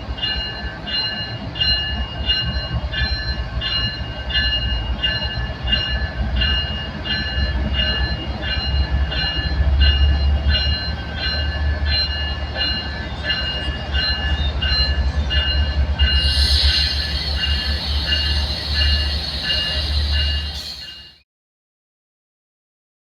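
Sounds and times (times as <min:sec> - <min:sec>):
passing train rumble: 0:00.0 - 0:21.2
railroad crossing bell ringing: 0:00.0 - 0:21.2.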